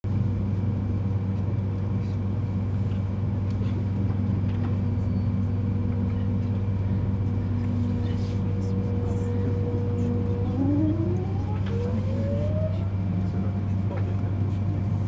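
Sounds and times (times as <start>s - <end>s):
train interior hum: 0.1s - 15.0s.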